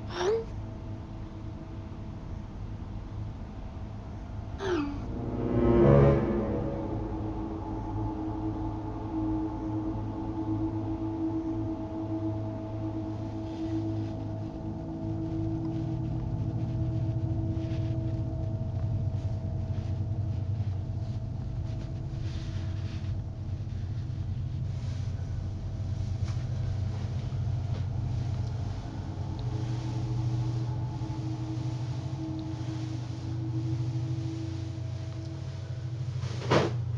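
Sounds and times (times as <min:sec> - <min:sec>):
deep rumble: 0:00.0 - 0:36.9
droning horror score: 0:00.0 - 0:36.9.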